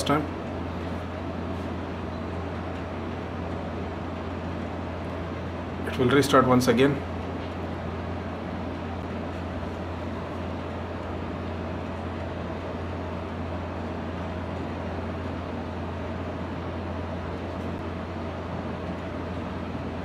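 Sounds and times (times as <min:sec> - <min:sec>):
fan hiss with low hum: 0:00.0 - 0:20.0.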